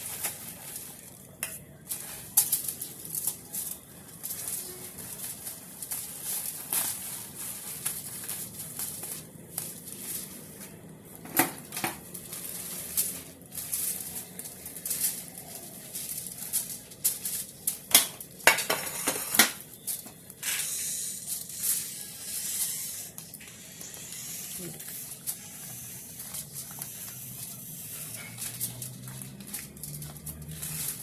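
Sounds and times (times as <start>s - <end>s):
utensils and dishes clattering: 0.0s - 31.0s.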